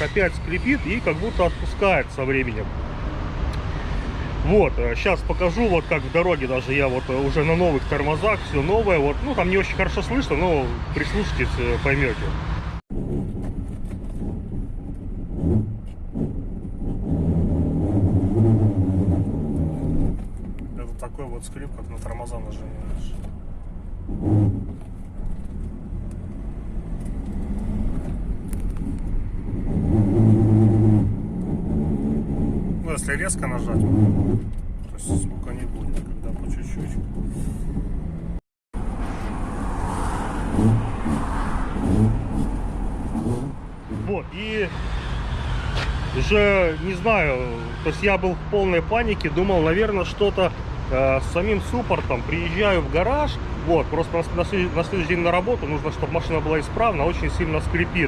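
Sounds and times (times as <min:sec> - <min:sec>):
van driving: 0:00.0 - 0:58.0.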